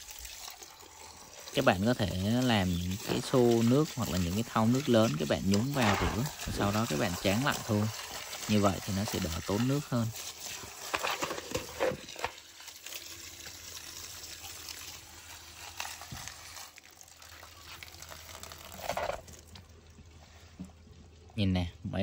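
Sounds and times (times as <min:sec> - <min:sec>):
water splashing from a pipe: 0:00.0 - 0:21.4.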